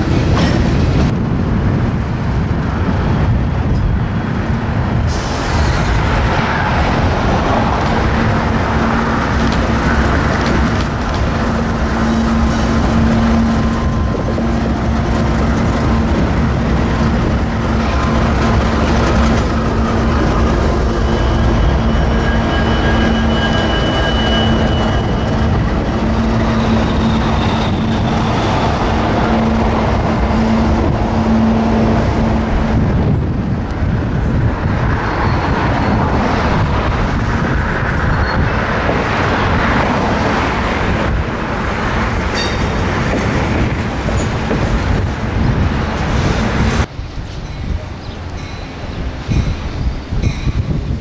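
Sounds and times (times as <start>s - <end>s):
diesel locomotive engines: 0.0s - 51.0s
steel wheels rumbling on rail: 0.0s - 51.0s.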